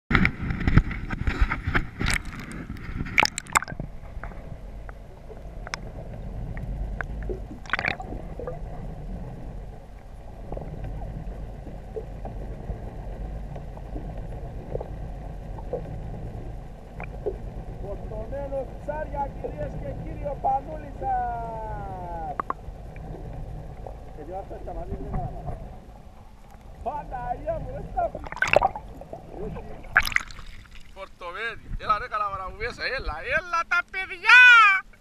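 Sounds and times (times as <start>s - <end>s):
water splashing and bubbling: 0.1s - 31.2s
low underwater rumble: 0.1s - 32.8s.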